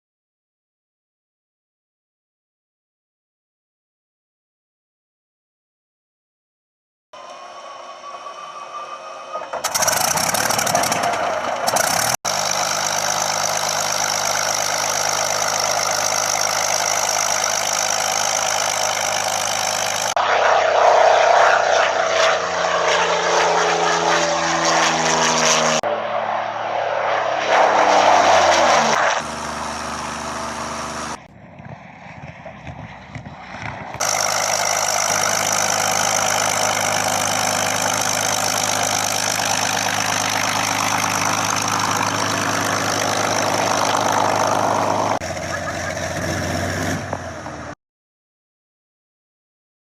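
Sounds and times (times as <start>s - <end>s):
piston aircraft engine running: 7.2s - 47.8s.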